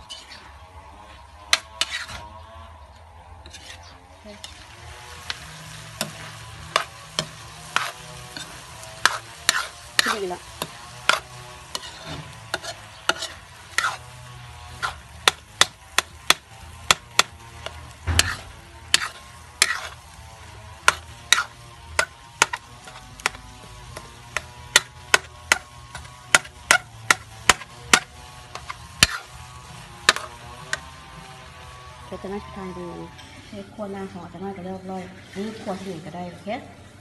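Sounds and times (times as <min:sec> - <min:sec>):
metal ladle scraping a wok: 0:00.0 - 0:02.4, 0:03.4 - 0:34.2
low sizzle: 0:00.0 - 0:37.0.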